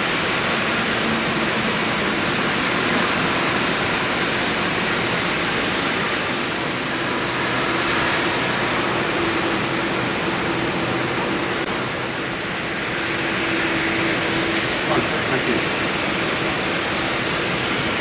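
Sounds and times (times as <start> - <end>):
airliner cabin engine roar: 0.0 - 18.0.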